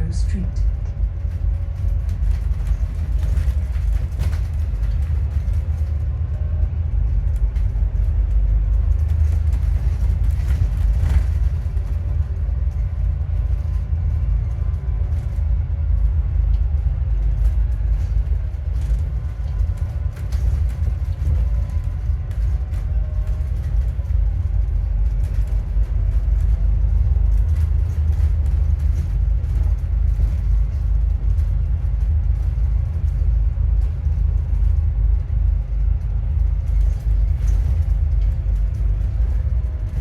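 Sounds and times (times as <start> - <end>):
bus engine and road rumble: 0.0 - 40.0
faint steady whine: 0.0 - 40.0.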